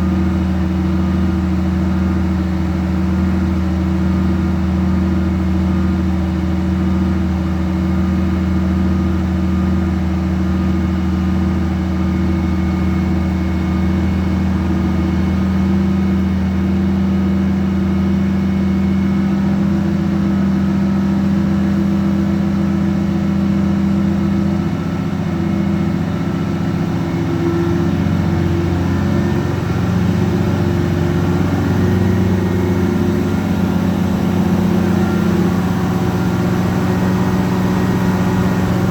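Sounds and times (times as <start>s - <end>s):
fire truck engine running: 0.0s - 38.9s.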